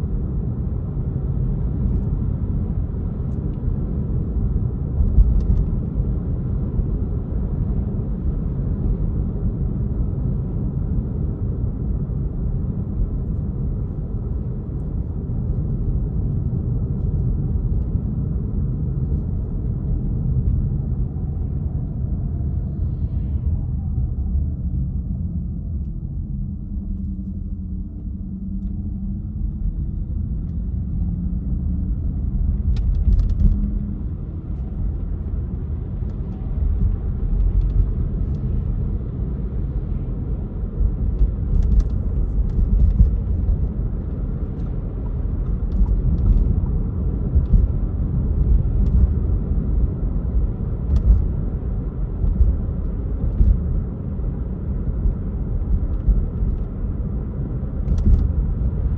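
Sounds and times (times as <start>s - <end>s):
car engine and tyres rumbling: 0.0s - 58.9s.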